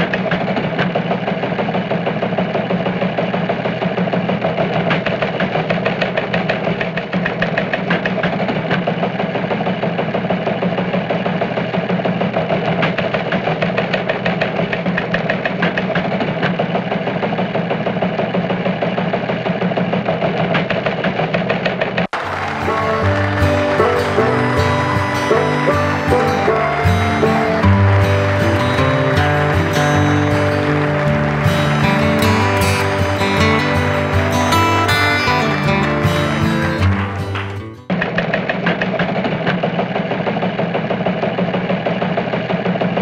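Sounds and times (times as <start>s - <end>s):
engine idling: 0.0s - 37.8s.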